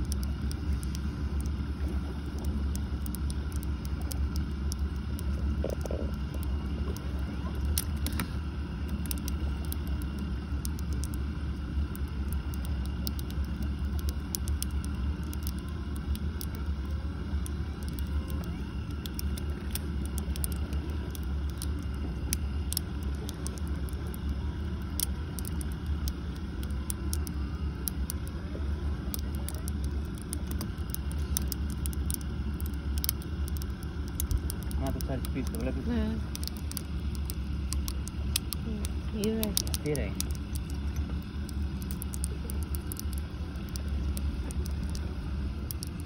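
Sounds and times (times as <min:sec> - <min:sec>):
boat engine low rumble: 0:00.0 - 0:46.0.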